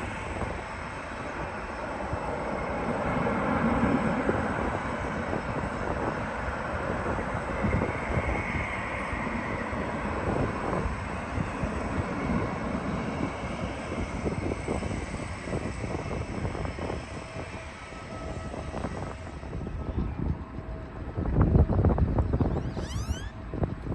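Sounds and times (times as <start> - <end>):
jet airliner engines passing: 0.0 - 23.9.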